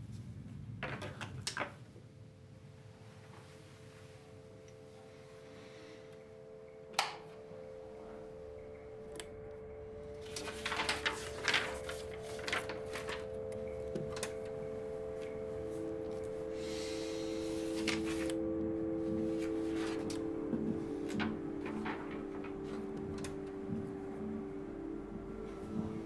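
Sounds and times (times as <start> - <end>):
steady hum: 1.9 - 26.0
low tone: 2.2 - 26.0.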